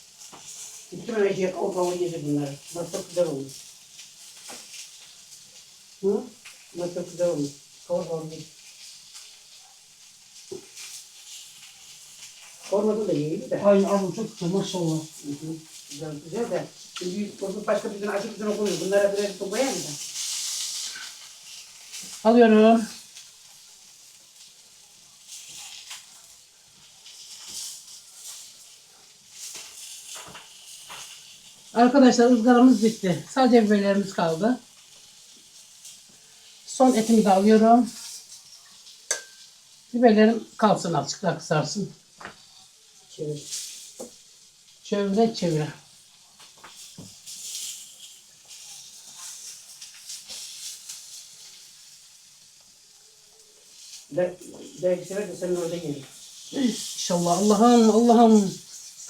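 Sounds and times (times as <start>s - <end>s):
meat sizzling on hot stone: 0.0s - 59.0s.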